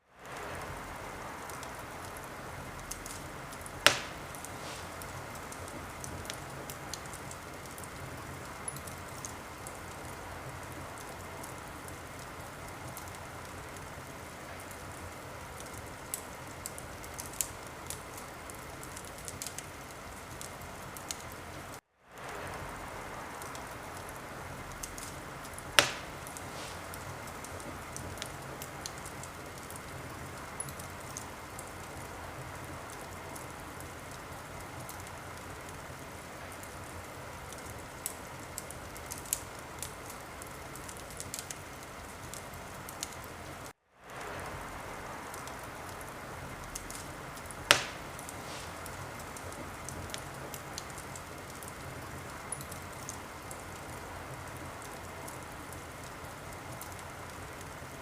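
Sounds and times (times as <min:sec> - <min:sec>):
wood fire crackling and popping: 0:00.1 - 0:58.0.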